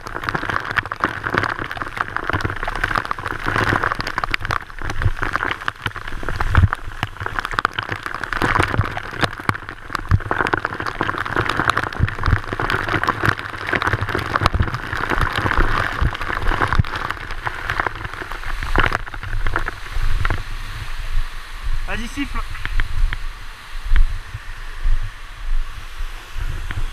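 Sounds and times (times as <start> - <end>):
waterfall splashing on camera: 0.0 - 26.9.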